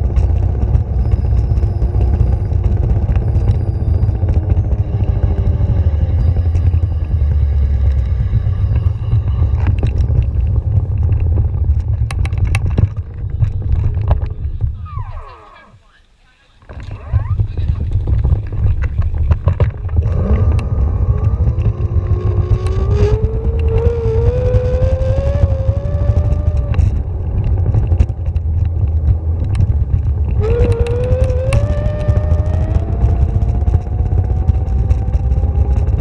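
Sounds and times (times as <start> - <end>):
low rumble of wind: 0.0 - 36.0
vehicle motor whining: 0.0 - 36.0.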